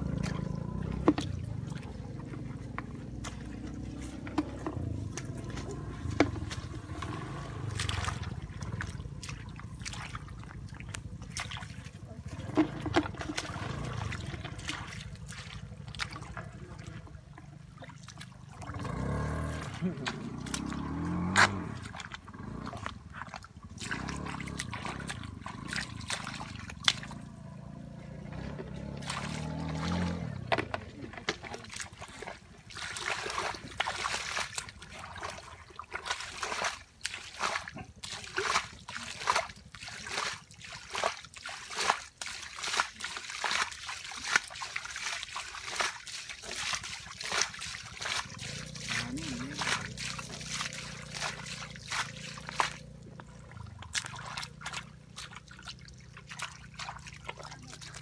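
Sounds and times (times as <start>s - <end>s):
muddy water splashing: 0.0s - 58.0s.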